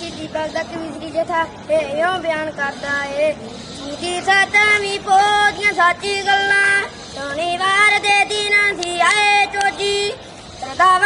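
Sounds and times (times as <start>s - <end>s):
boy singing unaccompanied: 0.0s - 11.0s.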